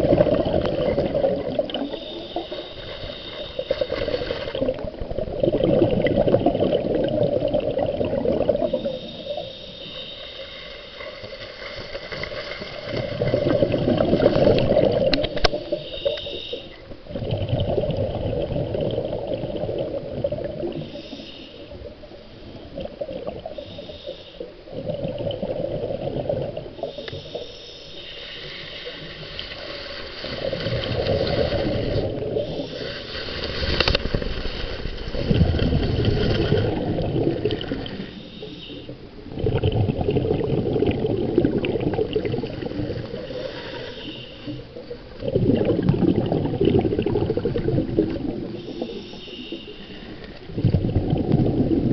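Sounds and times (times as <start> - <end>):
underwater rushing and gurgling: 0.0 - 51.9.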